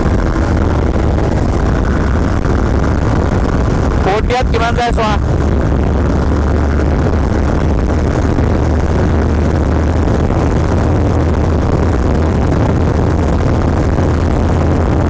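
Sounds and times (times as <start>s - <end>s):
motorcycle engine cruising: 0.0s - 15.0s
road noise: 0.0s - 15.0s
wind rushing: 0.0s - 15.0s.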